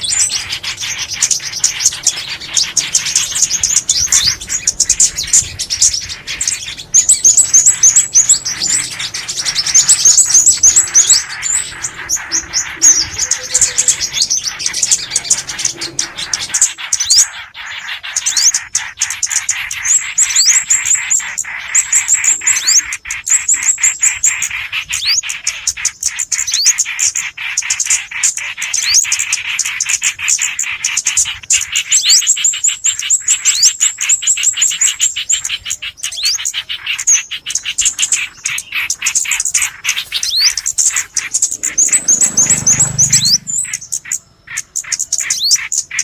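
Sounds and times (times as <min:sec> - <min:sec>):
songbird chirps: 0:00.0 - 0:46.0.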